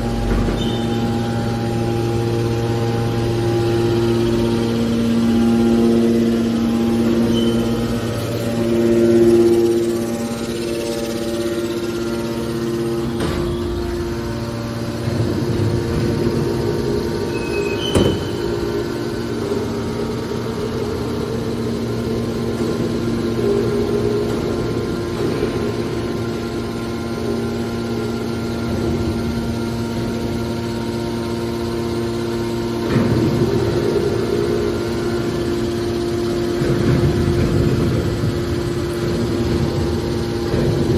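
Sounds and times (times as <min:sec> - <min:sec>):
hydraulic pump motor humming: 0:00.0 - 0:40.9.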